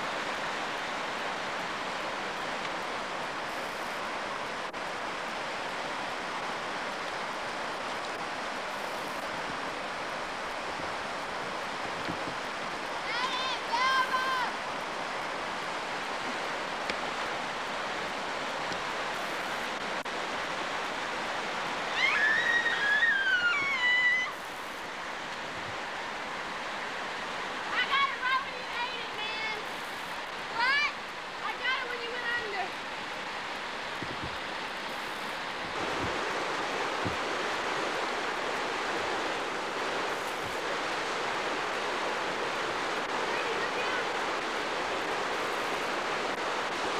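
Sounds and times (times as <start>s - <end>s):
river rapids rushing over rocks: 0.0s - 46.9s.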